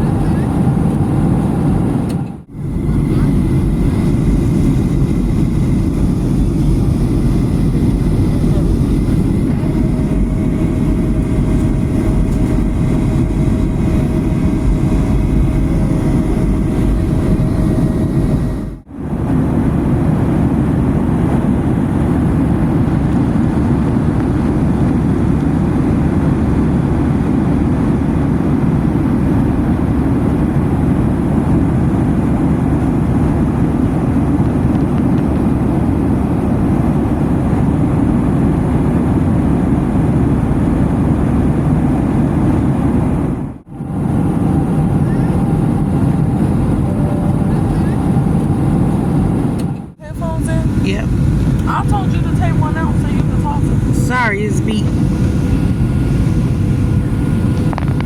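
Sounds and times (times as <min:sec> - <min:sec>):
airliner cabin noise: 0:00.0 - 0:58.0.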